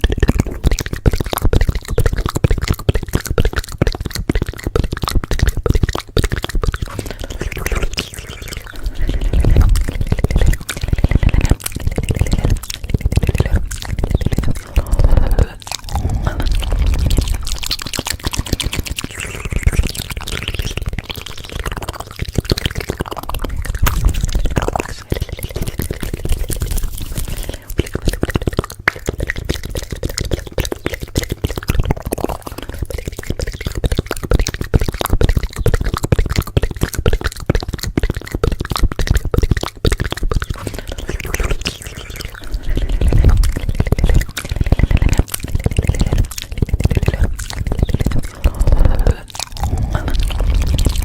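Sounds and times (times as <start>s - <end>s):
wet drippy sounds: 0.0s - 51.0s.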